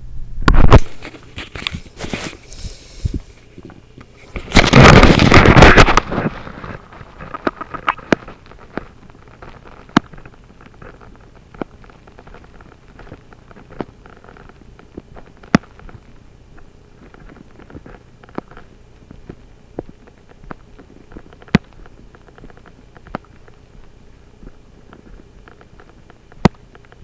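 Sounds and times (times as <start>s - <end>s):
faint low microphone hum: 0.0s - 27.0s
small clicks and taps: 3.6s - 27.0s.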